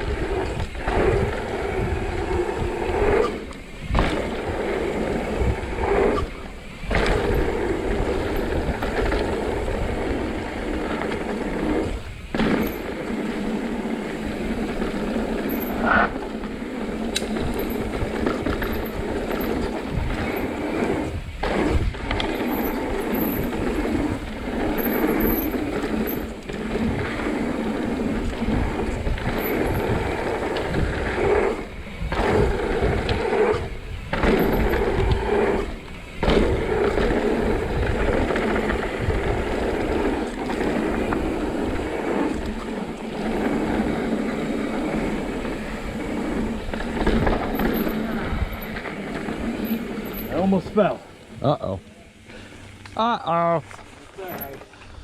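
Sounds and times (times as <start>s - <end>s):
wind on microphone: 0.0s - 50.3s
tyres rumbling over rock: 0.0s - 51.0s
bike rattling: 0.0s - 55.0s.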